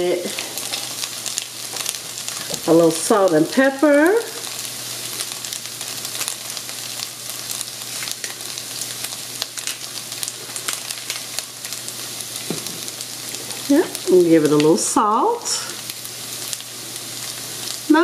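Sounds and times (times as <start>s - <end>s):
potatoes sizzling in a pan: 0.0s - 18.0s.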